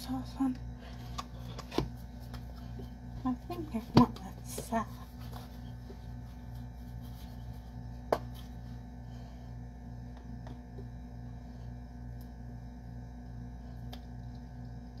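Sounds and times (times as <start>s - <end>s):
pulsing low hum: 0.0s - 15.0s.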